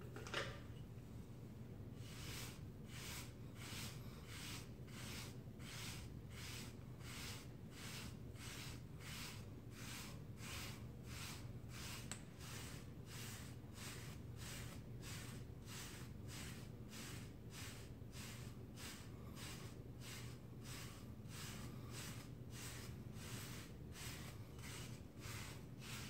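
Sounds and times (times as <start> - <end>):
hair brush swishing through hair: 2.0 - 26.0.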